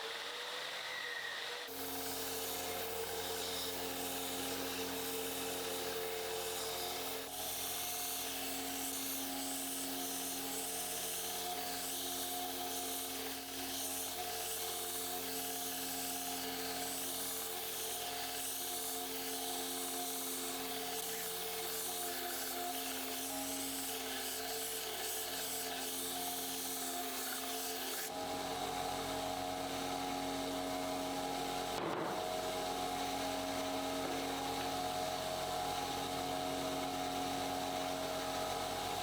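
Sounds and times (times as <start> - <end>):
electric tool grinding knife blade: 0.0 - 39.0.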